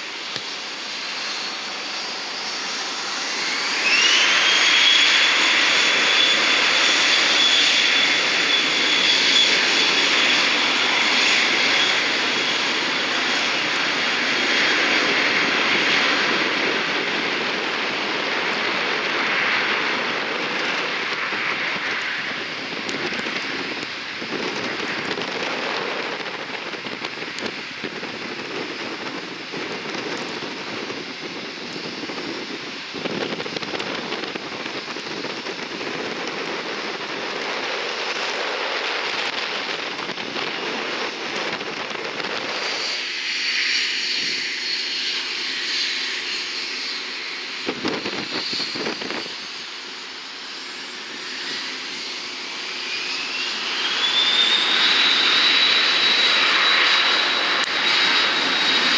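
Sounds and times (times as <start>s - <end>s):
high jet engine whine: 0.0s - 58.9s
jet engines rushing: 0.0s - 58.9s.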